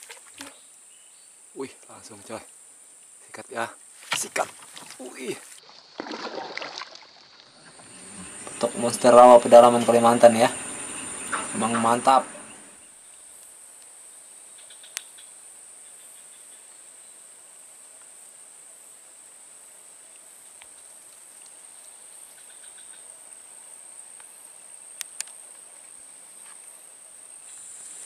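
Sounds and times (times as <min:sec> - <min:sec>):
high-pitched insect chorus: 0:00.2 - 0:06.1, 0:06.9 - 0:28.0.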